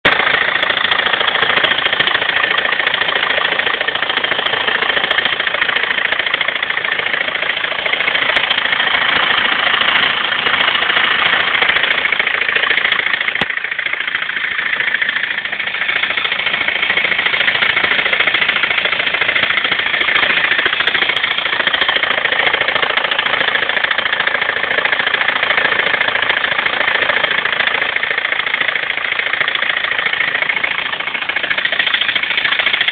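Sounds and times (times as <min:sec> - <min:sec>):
diesel engine rattling: 0:00.0 - 0:32.9.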